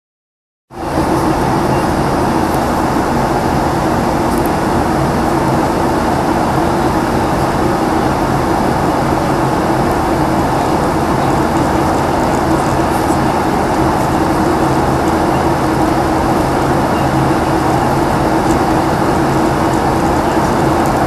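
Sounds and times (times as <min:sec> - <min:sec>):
plane engines and rushing air: 0:00.7 - 0:21.0.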